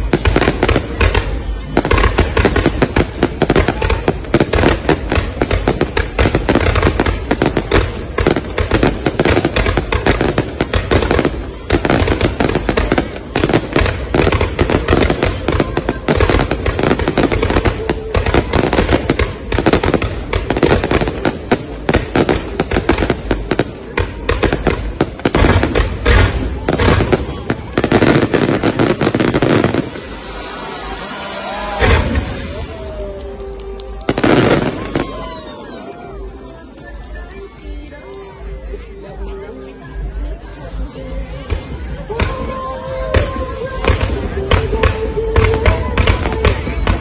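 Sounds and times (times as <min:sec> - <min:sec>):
fireworks bangs and crackles: 0:00.0 - 0:38.4, 0:41.2 - 0:47.0.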